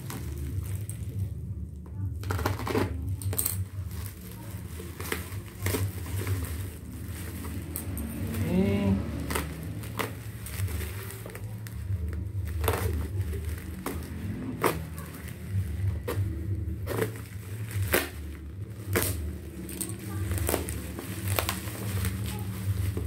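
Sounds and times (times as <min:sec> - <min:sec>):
plastic mailer crinkling and tearing: 0:00.0 - 0:23.0
steady low hum: 0:00.0 - 0:23.0.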